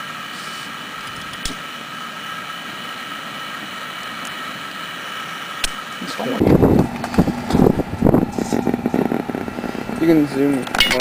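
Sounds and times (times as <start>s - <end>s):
electric blower whining: 0.0s - 10.9s.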